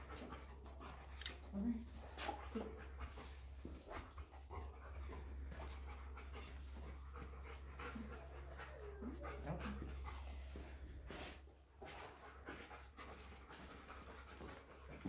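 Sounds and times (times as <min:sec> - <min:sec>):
dog panting and sniffing: 0:00.0 - 0:15.0.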